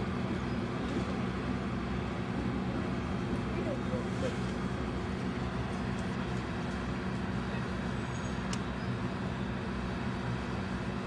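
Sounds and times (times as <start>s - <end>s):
low mechanical hum and rumble: 0.0s - 11.0s.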